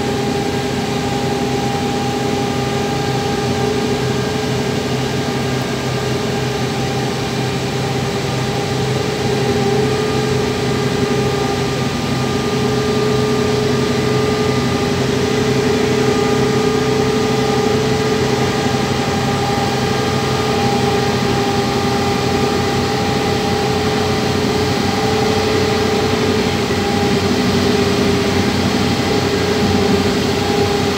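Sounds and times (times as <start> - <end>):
diesel engine drone: 0.0 - 30.9
steady whine: 0.0 - 30.9.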